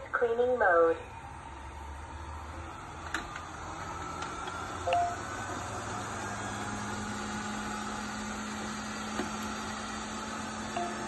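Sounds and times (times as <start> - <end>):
robot vacuum humming: 1.1 - 11.0.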